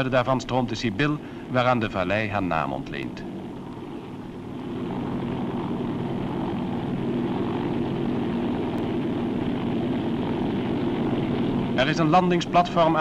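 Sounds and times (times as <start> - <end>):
helicopter engine and rotor hum: 0.0 - 13.0.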